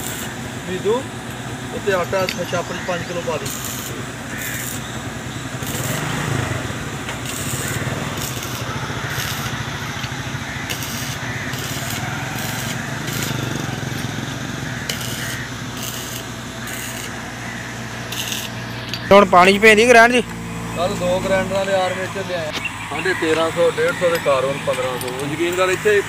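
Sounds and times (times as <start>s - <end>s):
welding arc crackling: 0.0s - 22.7s
steady low hum: 0.0s - 26.0s.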